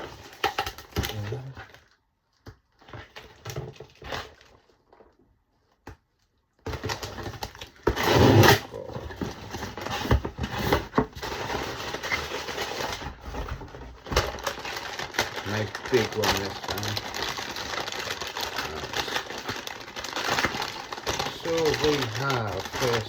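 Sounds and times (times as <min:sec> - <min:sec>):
cardboard clicks and crackles: 0:00.0 - 0:23.0
packaging rustling and tearing: 0:00.0 - 0:23.0.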